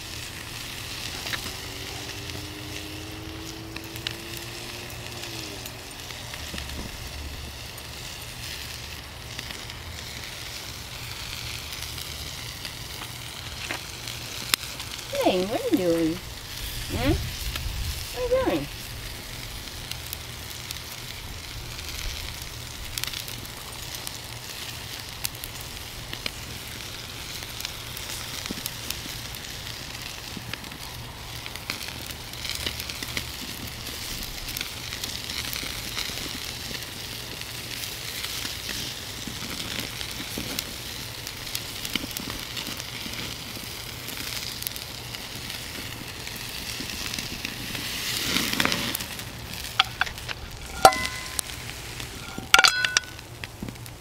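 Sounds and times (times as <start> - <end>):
fat popping and crackling: 0.0 - 54.0
steak sizzling on a grill: 0.0 - 54.0.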